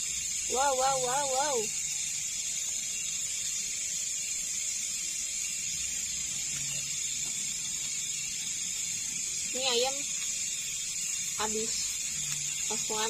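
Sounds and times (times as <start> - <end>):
night insects buzzing: 0.0 - 13.0.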